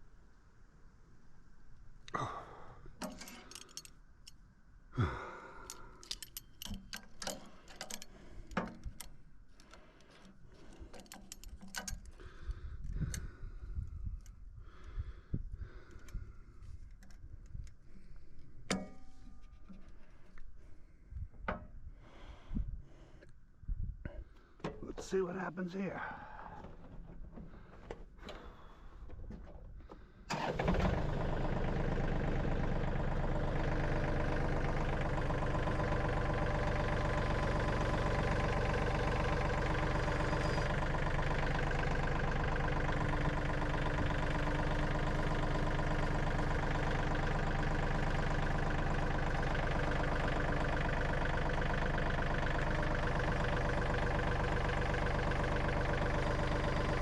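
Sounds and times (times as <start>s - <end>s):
engine starting and running: 2.1s - 4.4s, 5.0s - 23.3s, 24.1s - 57.0s.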